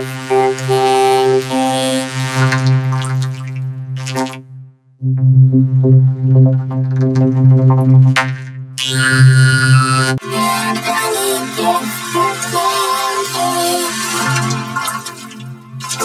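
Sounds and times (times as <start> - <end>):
buzzing electronic drone: 0.0 - 16.0.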